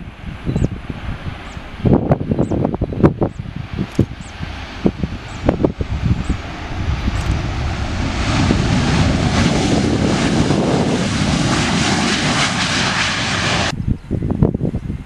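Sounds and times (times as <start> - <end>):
jet engines roaring: 0.0 - 13.8
wind buffeting microphone: 0.0 - 15.0.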